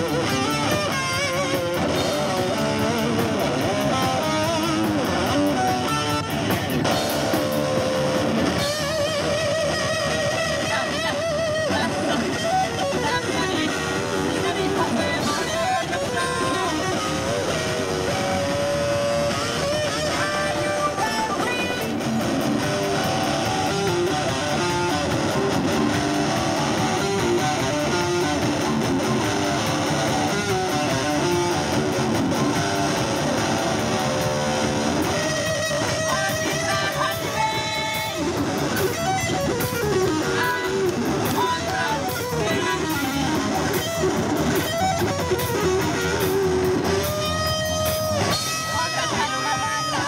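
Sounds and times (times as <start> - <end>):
electric guitar: 0.0 - 50.0
live band playing: 0.0 - 50.0.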